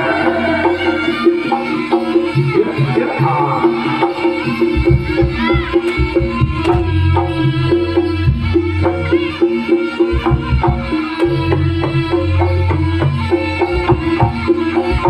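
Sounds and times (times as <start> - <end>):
gamelan ensemble playing: 0.0 - 15.0
hand drums beating: 0.0 - 15.0.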